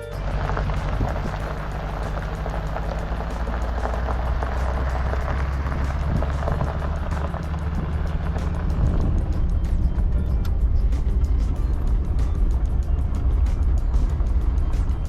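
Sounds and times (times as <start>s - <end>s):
tyres crackling on gravel: 0.0s - 15.0s
vehicle engine and road rumble: 0.0s - 15.0s.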